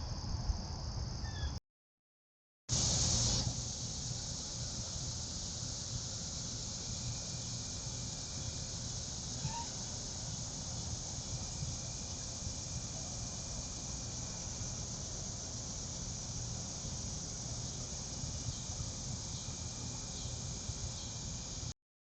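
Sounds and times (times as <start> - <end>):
crickets trilling: 0.0 - 1.6, 2.7 - 21.7.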